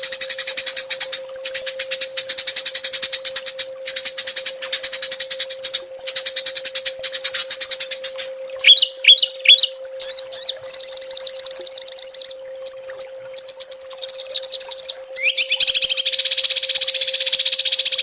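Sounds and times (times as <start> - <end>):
faint steady hum: 0.0 - 18.0
songbird rapid trills: 0.0 - 18.0.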